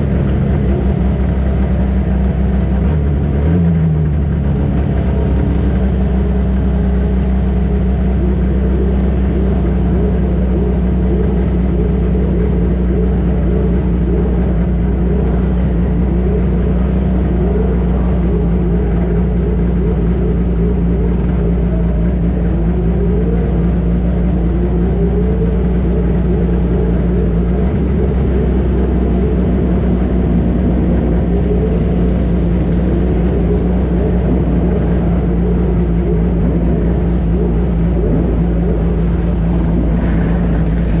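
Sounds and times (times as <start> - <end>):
racing car engine revving: 0.0 - 41.0.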